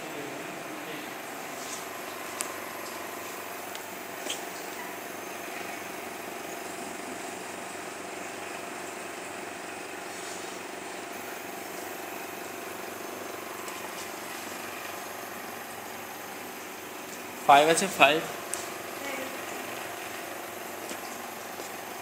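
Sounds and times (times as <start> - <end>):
instrument hiss and hum: 0.0 - 22.0.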